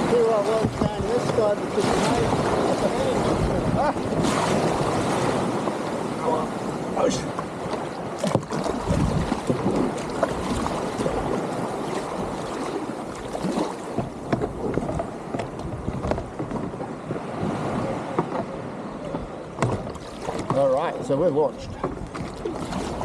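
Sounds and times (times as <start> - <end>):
small waves: 0.0 - 23.0
water splashing around kayak: 0.0 - 23.0
wind buffeting microphone: 0.0 - 23.0.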